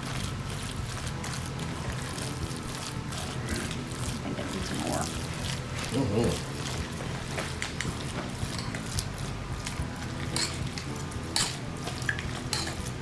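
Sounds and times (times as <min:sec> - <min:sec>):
spatula stirring in plastic bowl: 0:00.0 - 0:13.0.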